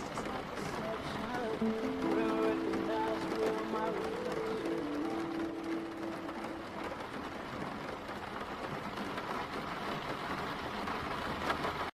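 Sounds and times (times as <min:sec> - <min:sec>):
rain on a car roof: 0:00.0 - 0:12.0.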